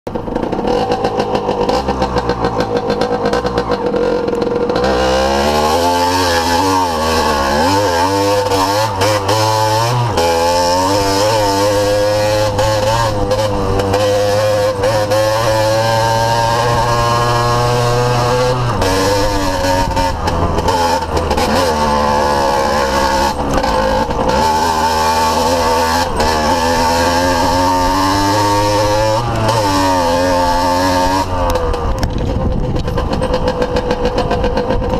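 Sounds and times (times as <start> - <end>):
two-stroke motorcycle engine revving: 0.1 - 34.9.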